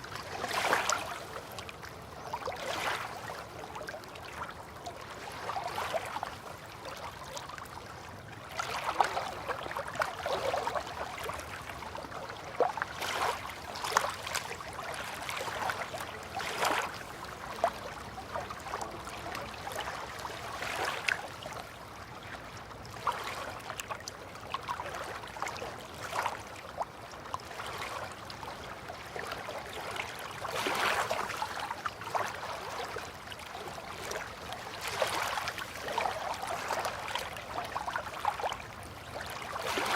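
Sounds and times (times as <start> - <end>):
river water lapping: 0.0 - 39.9
small water splashes: 0.0 - 39.9.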